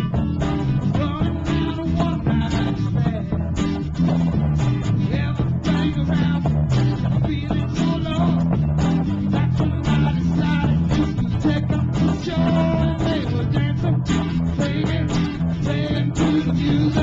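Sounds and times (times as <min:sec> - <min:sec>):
guitar-led band music: 0:00.0 - 0:17.0.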